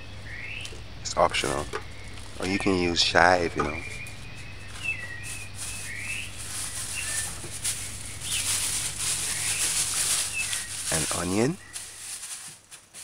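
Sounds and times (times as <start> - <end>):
bird chirping: 0.0 - 12.1.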